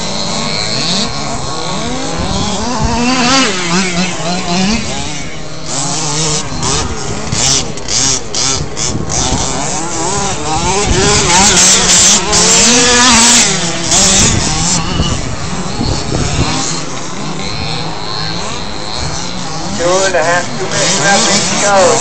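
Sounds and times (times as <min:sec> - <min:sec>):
small motors revving: 0:00.0 - 0:22.0.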